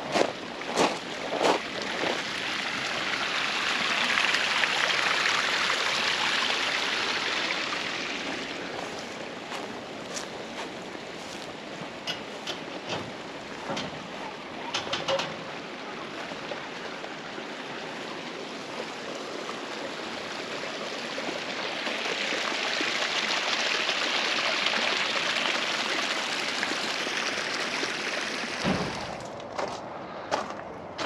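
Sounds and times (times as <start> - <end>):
creek water running: 0.0 - 29.6.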